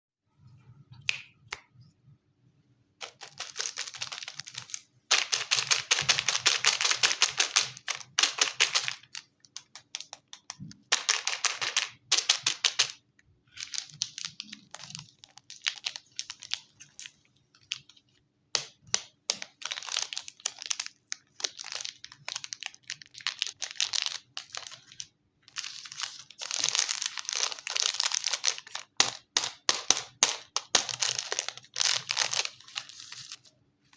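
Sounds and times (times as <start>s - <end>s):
wrapper crinkling and tearing: 3.0s - 10.2s, 10.9s - 17.9s, 19.3s - 33.5s.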